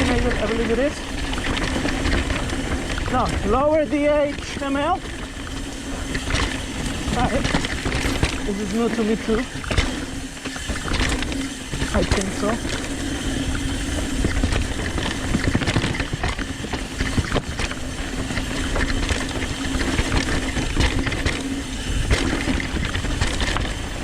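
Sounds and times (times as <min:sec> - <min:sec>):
bike chain and frame rattling: 0:00.0 - 0:24.0
tyres over dirt and rocks: 0:00.0 - 0:24.0.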